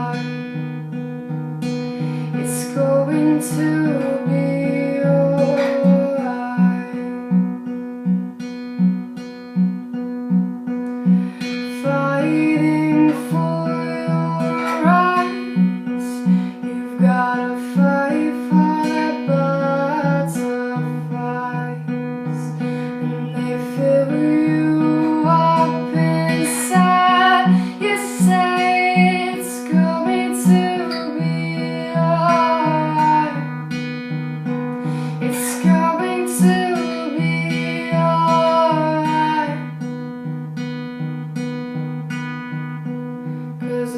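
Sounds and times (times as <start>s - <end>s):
woman singing: 0.0s - 0.9s, 2.2s - 7.8s, 10.9s - 40.0s, 43.4s - 43.9s
acoustic guitar picking: 0.0s - 43.9s.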